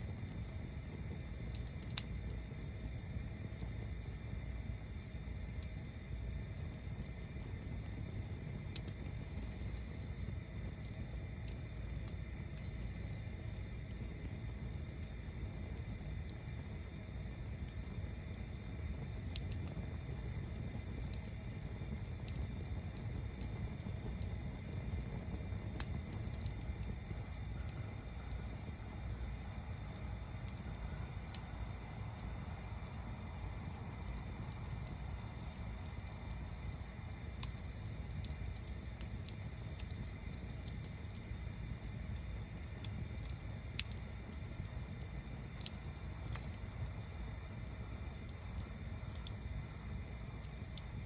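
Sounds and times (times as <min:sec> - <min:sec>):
bonfire burning: 0:00.0 - 0:51.0
fire crackles and pops: 0:00.0 - 0:51.0.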